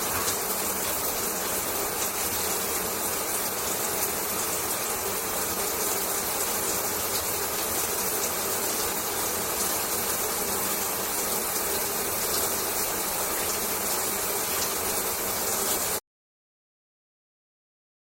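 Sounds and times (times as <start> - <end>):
shower water spraying: 0.0 - 16.0.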